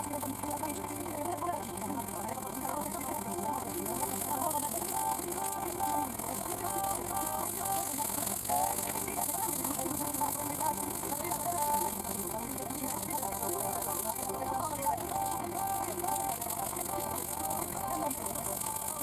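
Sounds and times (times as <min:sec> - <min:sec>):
hum and static: 0:00.0 - 0:19.0
small radio playing: 0:00.0 - 0:19.0.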